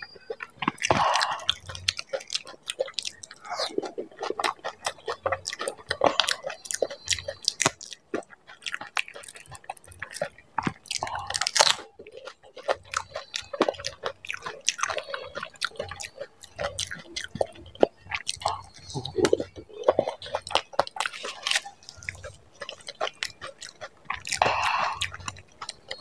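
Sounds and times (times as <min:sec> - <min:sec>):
crunchy chewing and biting: 0:00.0 - 0:26.0.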